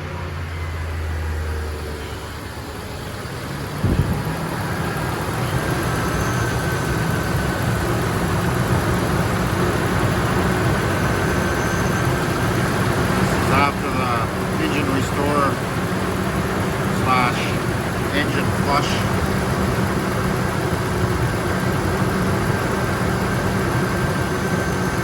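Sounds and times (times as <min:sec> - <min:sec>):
engine starting and idling: 0:00.5 - 0:25.0.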